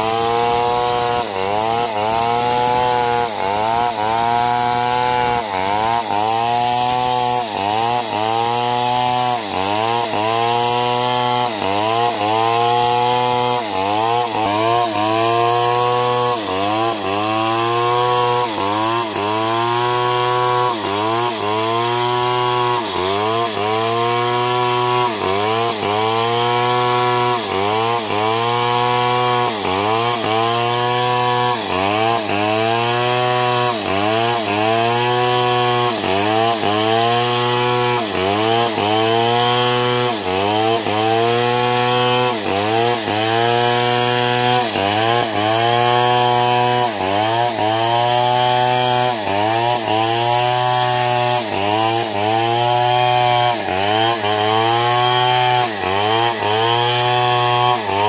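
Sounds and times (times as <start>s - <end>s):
chainsaw cutting through log: 0.0s - 58.0s.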